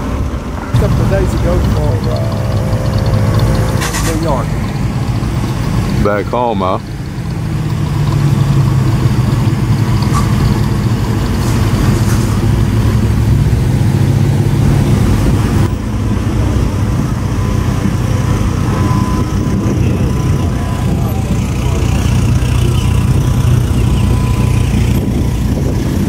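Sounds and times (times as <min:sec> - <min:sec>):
car engines rumbling: 0:00.0 - 0:26.0.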